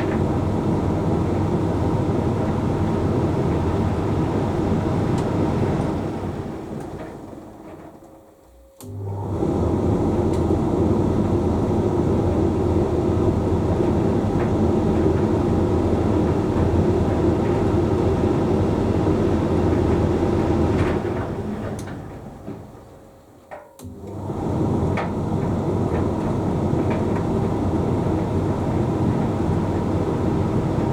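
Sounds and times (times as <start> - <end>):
tumble dryer motor and drum rumble: 0.0 - 30.9.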